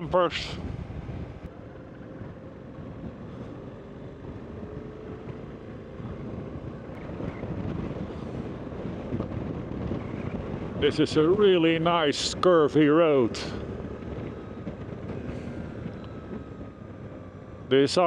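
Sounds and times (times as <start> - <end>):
wind noise on microphone: 0.0 - 1.5, 2.2 - 17.7
motorcycle engine rumble: 0.0 - 18.0.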